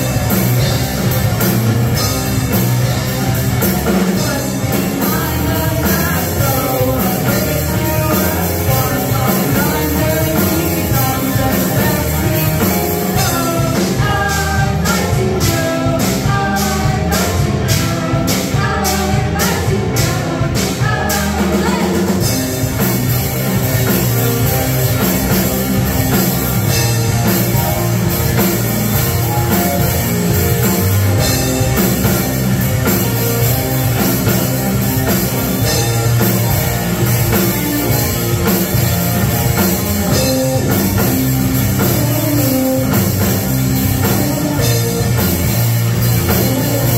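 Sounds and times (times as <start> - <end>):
live rock band with vocals: 0.0 - 46.9.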